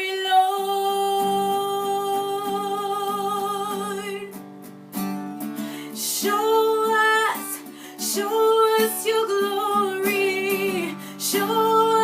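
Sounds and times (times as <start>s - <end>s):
person singing worship song: 0.0s - 4.4s, 5.8s - 12.0s
strummed acoustic guitar: 0.0s - 12.0s.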